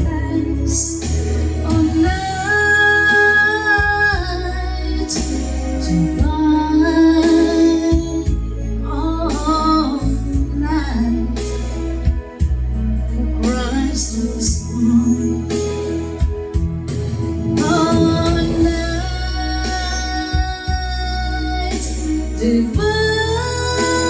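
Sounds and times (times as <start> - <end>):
person singing: 0.0 - 11.5, 13.1 - 16.3, 17.1 - 24.0
instrumental backing with bass: 0.0 - 24.0.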